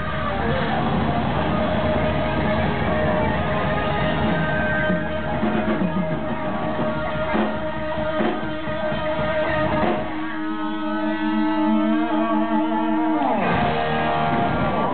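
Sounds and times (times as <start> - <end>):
live rock band playing: 0.0 - 14.9.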